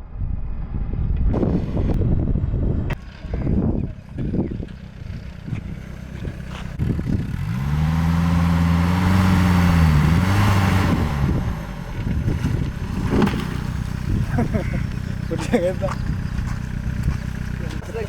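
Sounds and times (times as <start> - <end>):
wind noise: 0.0 - 17.6
rough tyre noise: 0.5 - 18.0
engine revving under load: 0.7 - 18.0.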